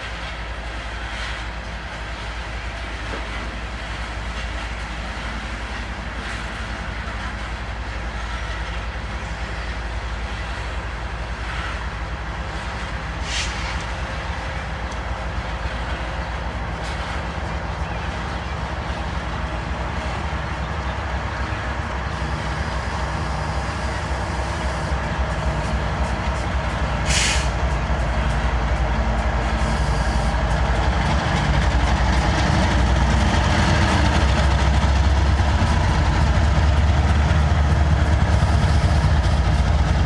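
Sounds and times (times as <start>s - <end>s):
train wheels clattering on rails: 0.0s - 40.0s.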